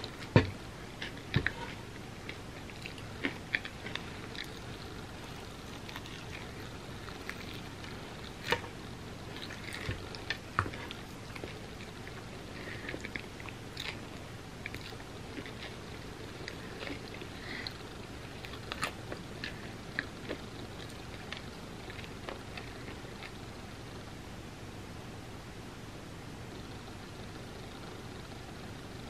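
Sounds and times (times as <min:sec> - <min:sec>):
chewing and crunching: 0:00.0 - 0:23.5.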